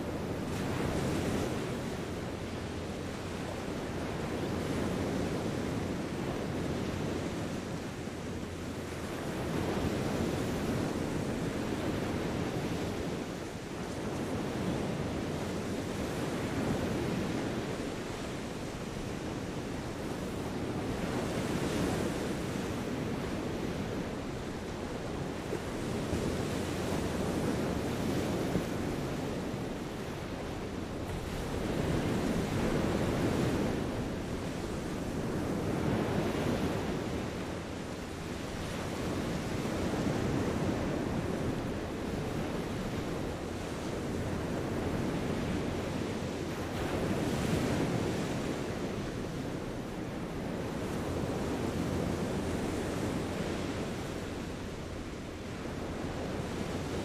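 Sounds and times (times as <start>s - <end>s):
sea waves washing ashore: 0.0s - 57.0s.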